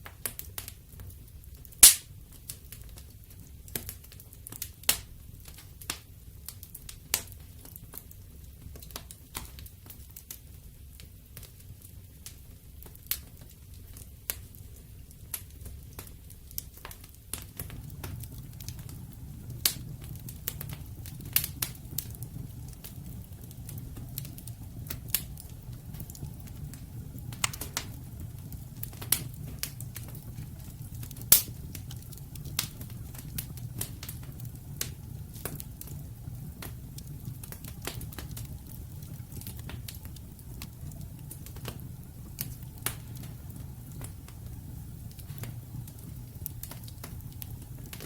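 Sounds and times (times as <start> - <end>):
low rumble of flame: 0.0 - 48.0
wood fire crackling and popping: 0.0 - 48.0.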